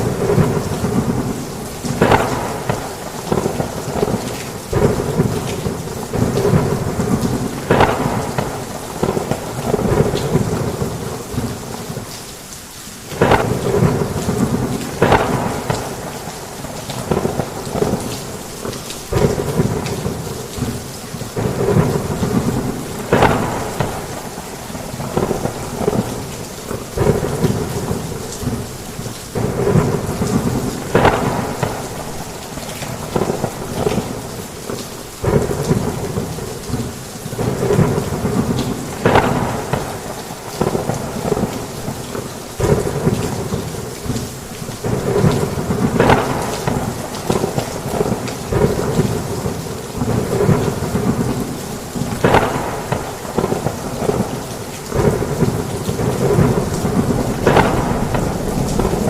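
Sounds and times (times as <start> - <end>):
sharp thunder cracks: 0.0 - 12.0, 13.1 - 18.4, 19.1 - 34.2, 35.2 - 44.2, 44.8 - 59.0
thunder rumbling: 0.0 - 12.1, 13.1 - 59.0
heavy rain: 0.0 - 59.0.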